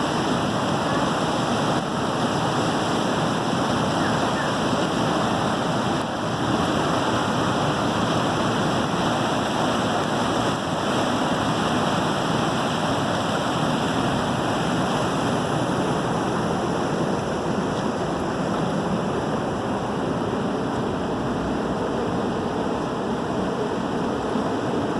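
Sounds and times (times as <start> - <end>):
water rushing at a waterwheel: 0.0 - 24.9.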